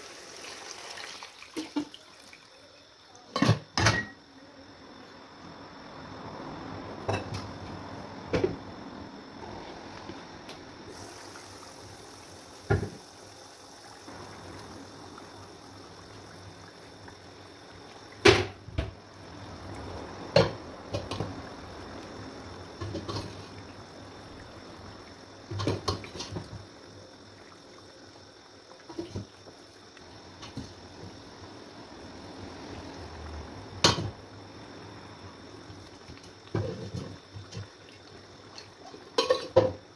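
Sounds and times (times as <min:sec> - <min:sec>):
liquid hissing: 0:00.0 - 0:03.0, 0:10.8 - 0:39.9.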